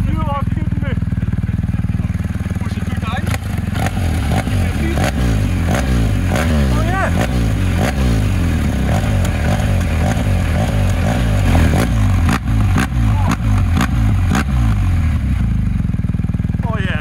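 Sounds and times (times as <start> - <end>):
exhaust cracks: 0.0 - 17.0
motorcycle engine throttle blips: 0.0 - 17.0.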